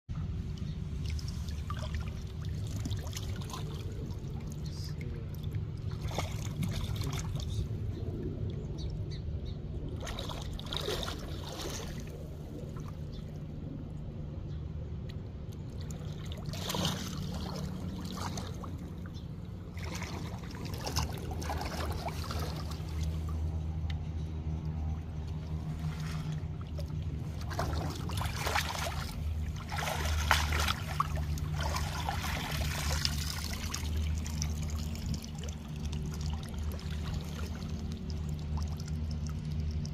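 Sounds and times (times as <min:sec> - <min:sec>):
steady low rumble: 0:00.1 - 0:39.9
river water trickling and splashing: 0:00.2 - 0:39.9.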